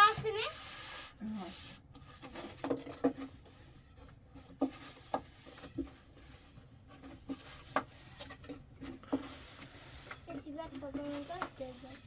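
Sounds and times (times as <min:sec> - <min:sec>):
faint rubbing: 0:00.0 - 0:12.0.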